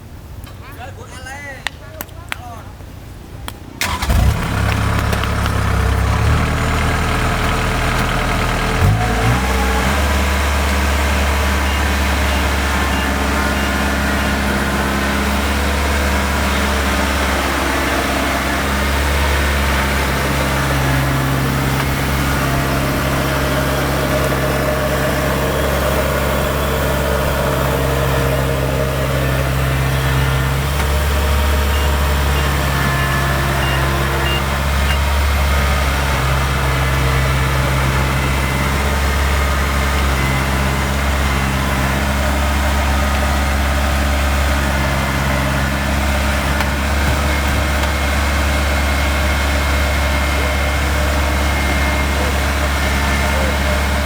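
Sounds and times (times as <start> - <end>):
combine harvester diesel engine: 3.0 - 54.0.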